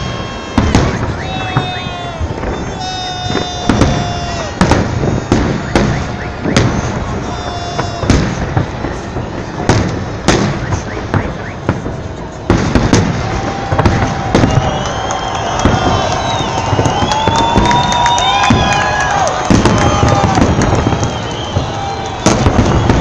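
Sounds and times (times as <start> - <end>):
crowd noise: 0.0 - 23.0
fireworks bangs: 0.0 - 23.0.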